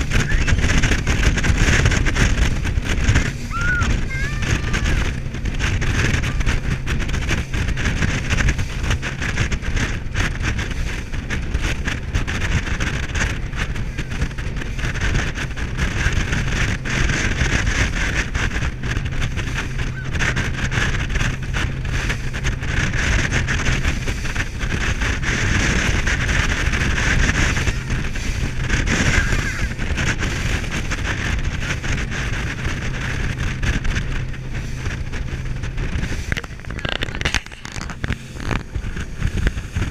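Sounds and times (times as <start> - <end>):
boat engine running: 0.0 - 39.9
water rushing along hull: 0.0 - 39.9
wind buffeting microphone: 0.0 - 39.9.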